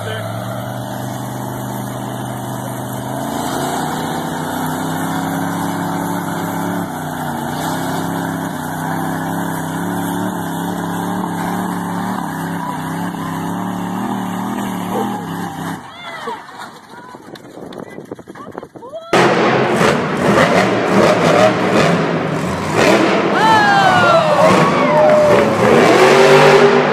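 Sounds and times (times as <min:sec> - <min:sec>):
truck engines revving hard: 0:00.0 - 0:17.0, 0:19.1 - 0:26.9.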